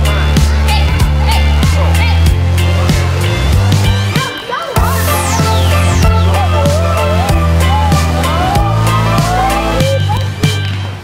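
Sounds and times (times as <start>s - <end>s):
electronic dance music: 0.0s - 10.6s.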